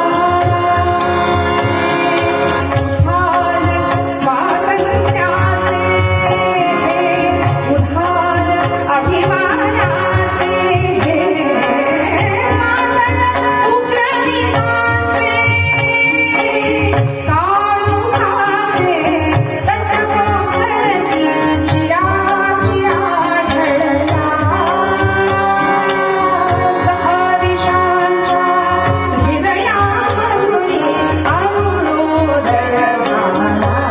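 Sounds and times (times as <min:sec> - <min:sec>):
tabla drums: 0:00.0 - 0:33.9
woman singing: 0:00.0 - 0:33.9.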